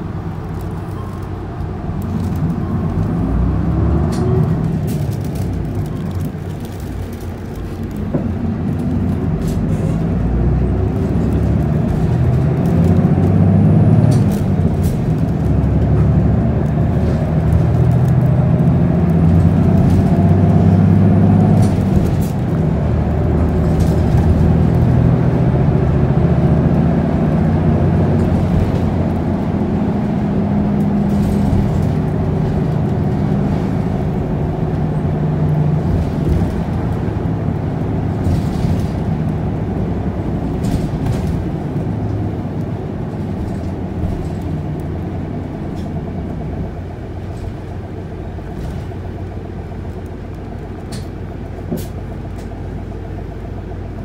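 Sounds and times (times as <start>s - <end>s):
bus diesel engine droning: 0.0s - 54.0s
tyre and road noise: 0.0s - 54.0s.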